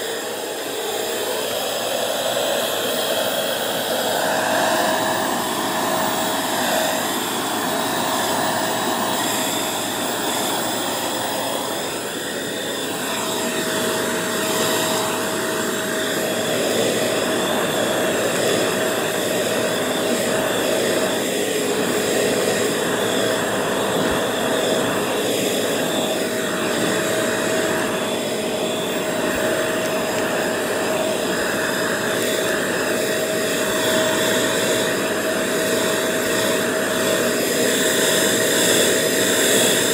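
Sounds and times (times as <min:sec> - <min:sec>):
vacuum cleaner running on rug: 0:00.0 - 0:39.9.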